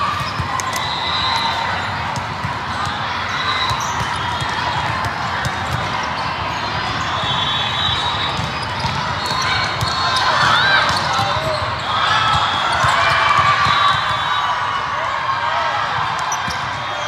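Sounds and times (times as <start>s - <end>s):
volleyballs being hit and bouncing: 0.0s - 14.2s.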